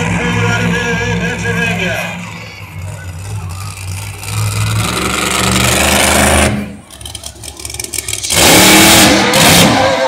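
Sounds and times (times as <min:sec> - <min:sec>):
truck engine running and revving: 0:00.0 - 0:10.0.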